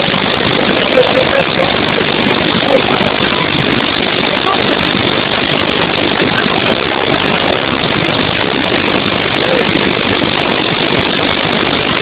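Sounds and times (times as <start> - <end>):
floodwater rushing over a dam: 0.0 - 12.0.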